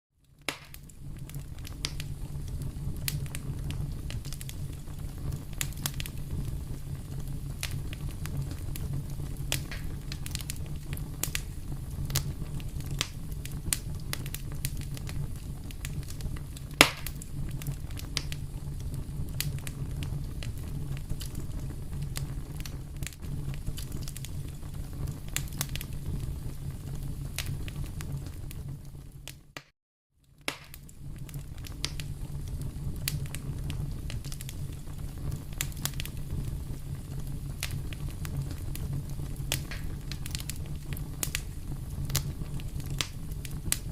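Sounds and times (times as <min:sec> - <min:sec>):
low rumble of flames: 0:00.2 - 0:29.6, 0:30.2 - 0:43.9
fire crackling and popping: 0:00.2 - 0:43.9.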